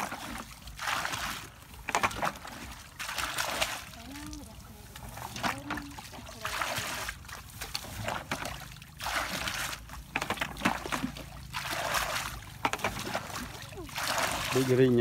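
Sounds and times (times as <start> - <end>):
water splashing from bucket: 0.0 - 15.0.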